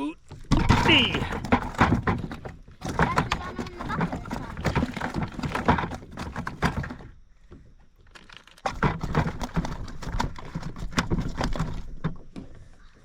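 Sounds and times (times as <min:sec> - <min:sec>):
rapid irregular clicking and knocking: 0:00.3 - 0:12.7.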